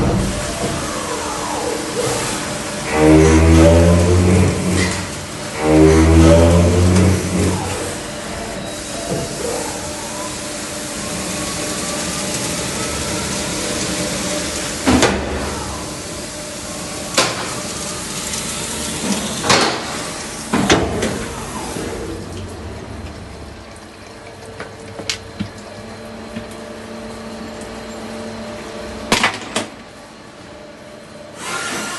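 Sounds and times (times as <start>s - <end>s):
coolant hissing: 0.0s - 28.6s
faint motor whine: 0.0s - 31.9s.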